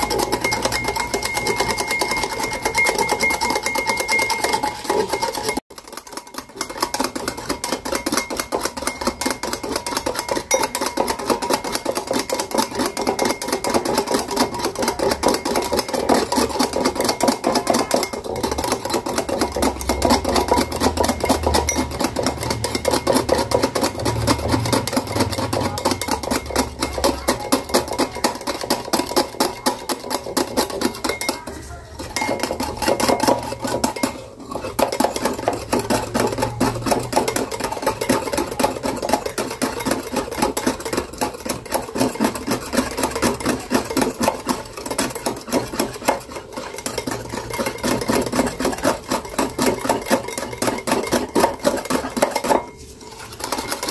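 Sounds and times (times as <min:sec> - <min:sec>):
metal whisk clinking on glass bowl: 0:00.0 - 0:53.9.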